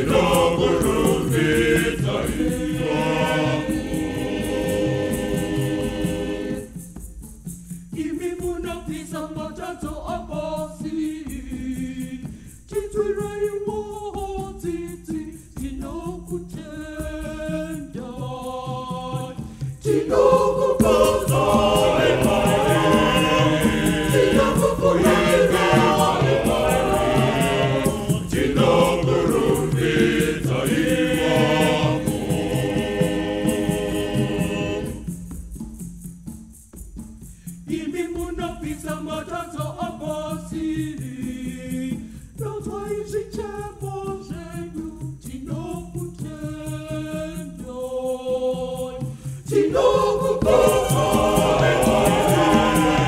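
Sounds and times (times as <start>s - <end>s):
choir singing a hymn: 0.0s - 7.1s, 8.0s - 35.3s, 37.7s - 53.0s.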